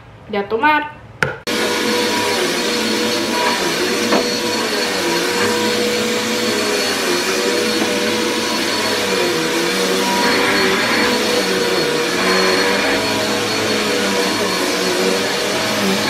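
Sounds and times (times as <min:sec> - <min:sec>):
vacuum cleaner running on carpet: 0:01.5 - 0:16.0.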